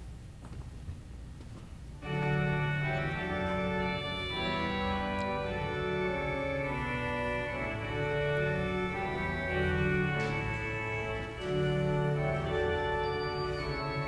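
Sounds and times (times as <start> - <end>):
church organ chords: 2.0 - 14.0.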